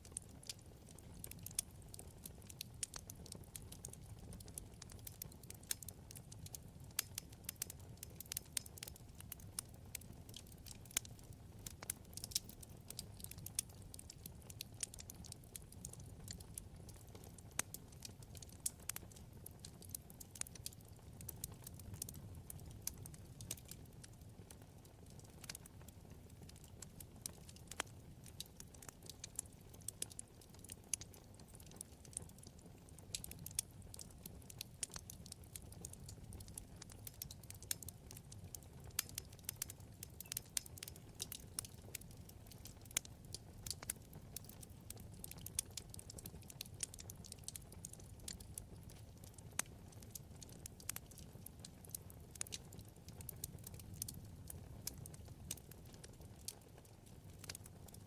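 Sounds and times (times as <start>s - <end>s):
crackles and pops of burning logs: 0.0s - 58.0s
low rumble of flames: 0.0s - 58.0s.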